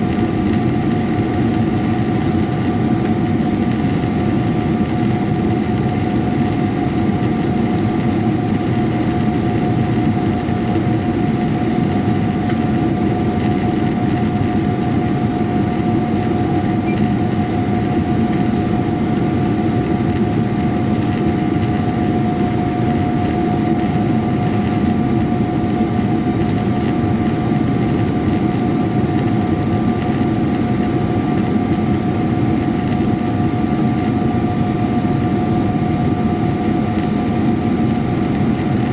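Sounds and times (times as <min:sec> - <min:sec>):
engine whine: 0:00.0 - 0:38.9
jet engine hum in cabin: 0:00.0 - 0:38.9.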